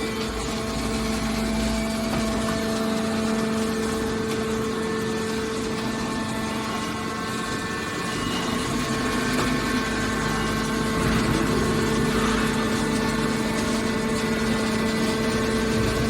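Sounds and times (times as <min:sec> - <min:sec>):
hydraulic baler machine hum: 0:00.0 - 0:16.0.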